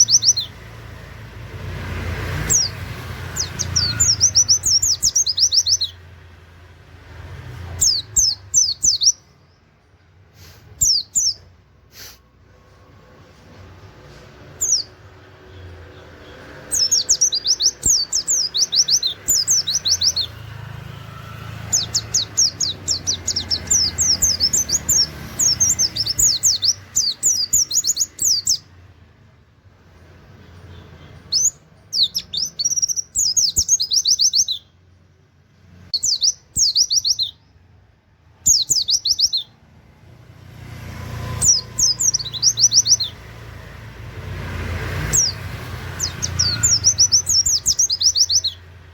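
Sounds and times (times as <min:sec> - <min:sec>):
white-eye bird singing: 0:00.0 - 0:01.1, 0:01.8 - 0:06.4, 0:07.1 - 0:09.8, 0:10.7 - 0:11.6, 0:14.4 - 0:28.9, 0:30.2 - 0:34.9, 0:35.8 - 0:37.7, 0:38.3 - 0:39.7, 0:41.0 - 0:48.9.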